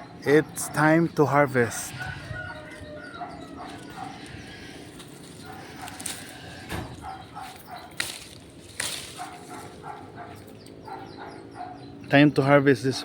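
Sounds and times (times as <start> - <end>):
distant dog barking: 0.0 - 13.0.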